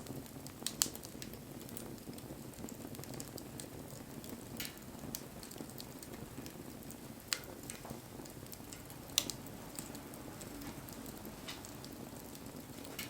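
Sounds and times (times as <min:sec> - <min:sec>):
fire burning with low rush: 0:00.0 - 0:13.0
fire crackles and pops: 0:00.0 - 0:13.0.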